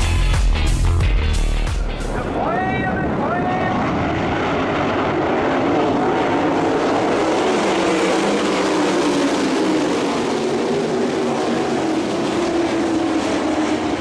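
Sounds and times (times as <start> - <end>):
race car engines running: 2.1 - 14.0.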